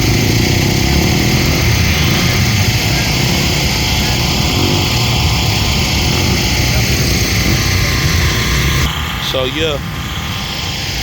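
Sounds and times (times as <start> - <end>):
dirt bike engines droning: 0.0 - 11.0.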